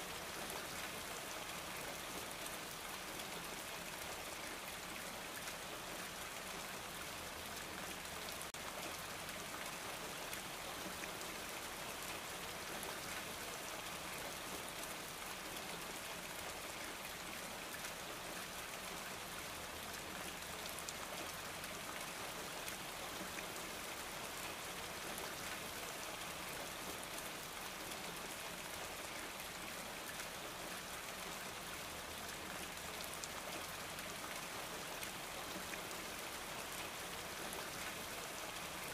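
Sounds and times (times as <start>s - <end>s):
rain-like hiss and pattering: 0.0s - 38.9s.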